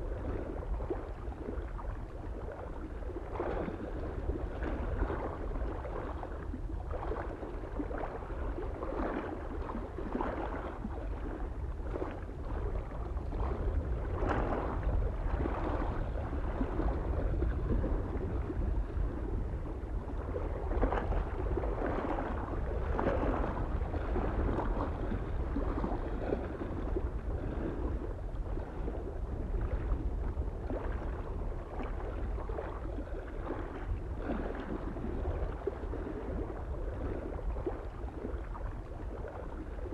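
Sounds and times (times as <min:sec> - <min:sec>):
small waves lapping on shore: 0:00.0 - 0:39.9
wind rumble: 0:00.0 - 0:39.9.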